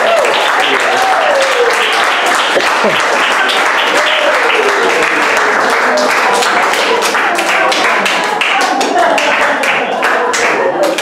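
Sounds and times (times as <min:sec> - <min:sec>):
audience clapping and cheering: 0:00.0 - 0:11.0.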